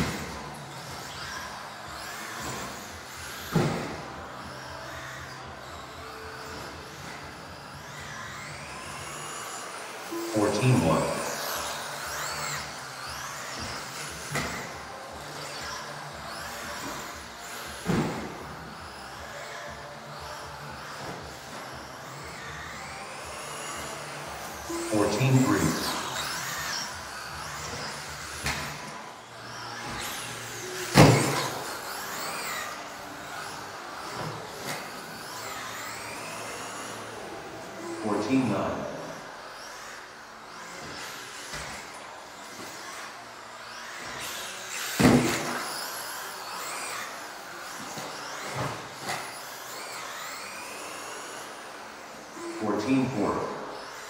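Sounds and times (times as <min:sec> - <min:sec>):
rc car electric motor whining: 0:00.0 - 0:54.0.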